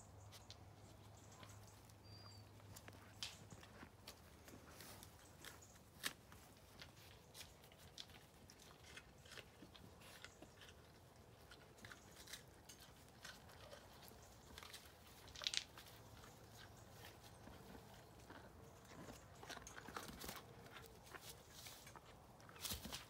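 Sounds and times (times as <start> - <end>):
alpacas crunching apples: 0.0 - 23.0.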